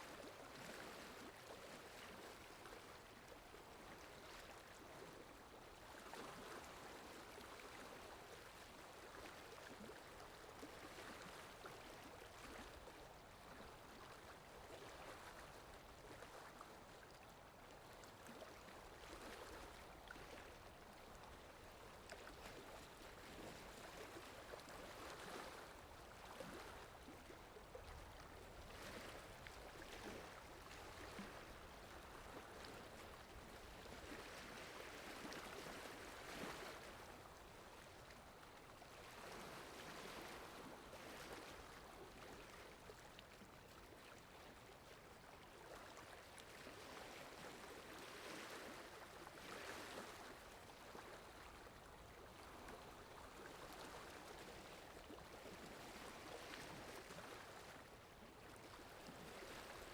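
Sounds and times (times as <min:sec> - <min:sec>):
water softly flowing and lapping: 0:00.0 - 0:59.9.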